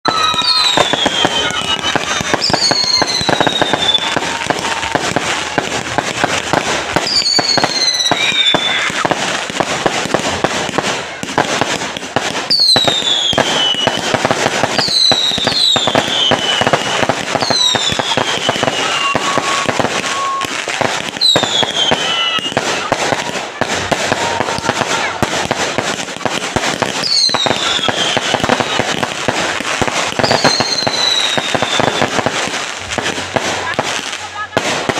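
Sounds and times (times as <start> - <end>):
falling firework whistles: 0.0 - 9.2, 12.4 - 25.4, 26.9 - 32.8
fireworks crackling and popping: 0.0 - 34.9.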